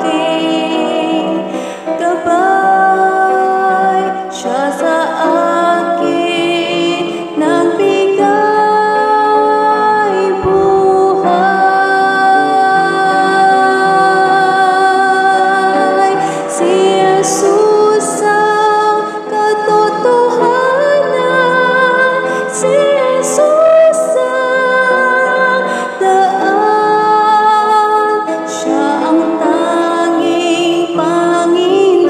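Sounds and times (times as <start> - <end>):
woman singing worship song: 0.0 - 32.0.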